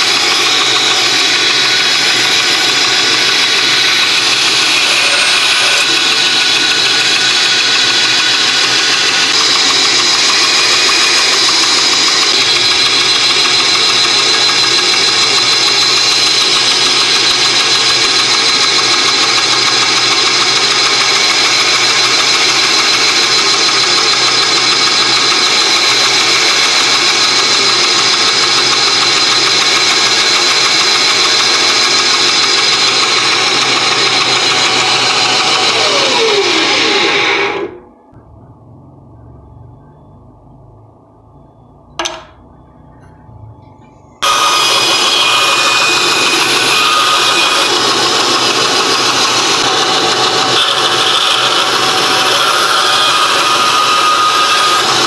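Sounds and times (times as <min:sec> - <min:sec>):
band saw cutting plywood: 0:00.0 - 0:37.9, 0:44.2 - 0:55.0
high bearing whine: 0:00.0 - 0:55.0.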